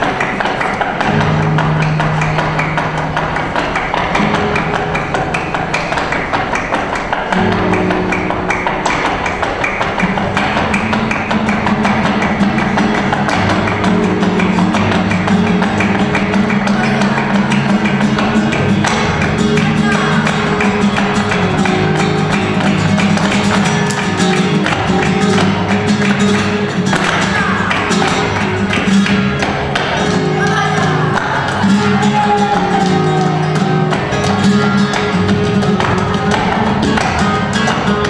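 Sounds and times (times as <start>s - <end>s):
flamenco guitar playing: 0.0s - 38.0s
rhythmic hand clapping: 0.0s - 38.0s.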